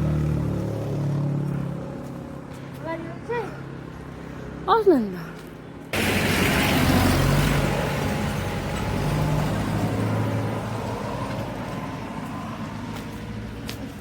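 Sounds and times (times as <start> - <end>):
vehicle passing by: 0.0 - 14.0.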